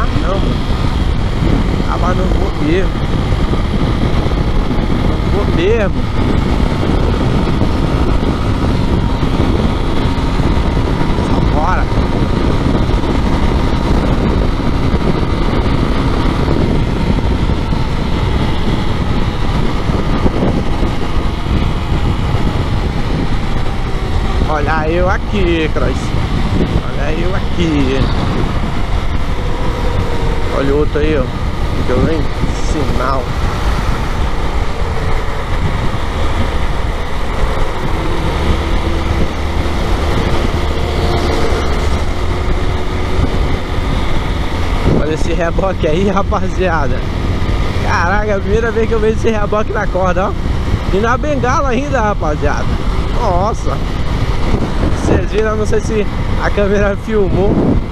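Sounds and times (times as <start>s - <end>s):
motorcycle engine running: 0.0s - 57.9s
wind rush on microphone: 0.0s - 57.9s.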